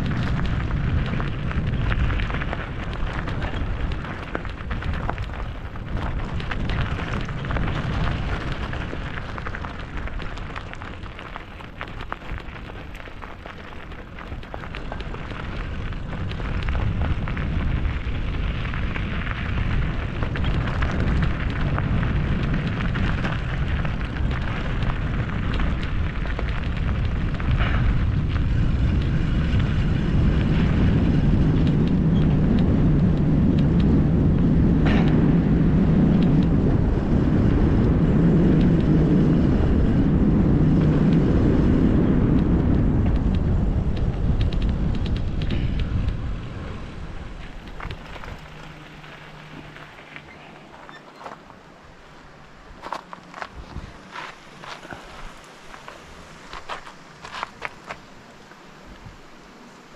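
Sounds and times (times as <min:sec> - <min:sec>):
tyres rumbling on rough track: 0:00.0 - 0:59.9
wind buffeting microphone: 0:00.0 - 0:59.9.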